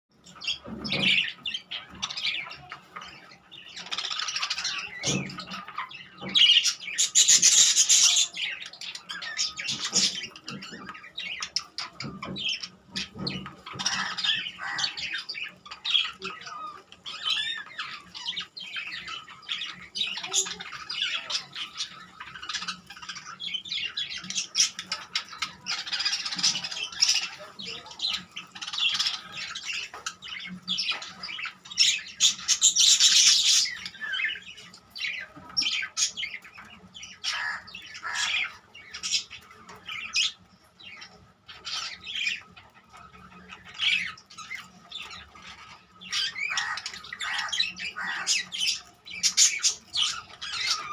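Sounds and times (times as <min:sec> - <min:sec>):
birds squawking: 0:00.1 - 0:50.9.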